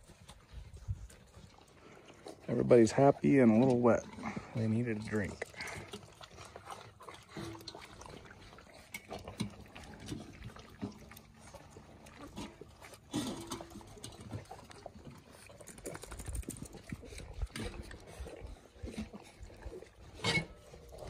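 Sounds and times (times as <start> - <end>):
puppies lapping water: 0.0 - 21.0
puppy vocal noises: 0.0 - 21.0.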